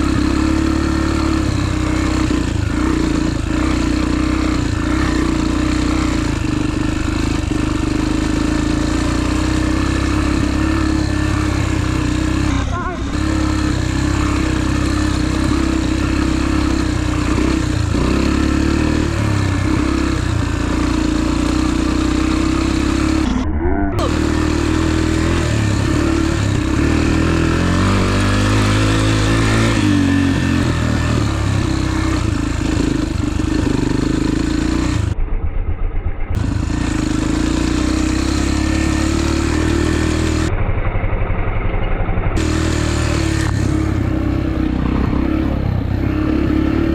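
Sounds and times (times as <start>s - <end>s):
dirt bike engine revving: 0.0s - 35.2s, 36.3s - 46.9s.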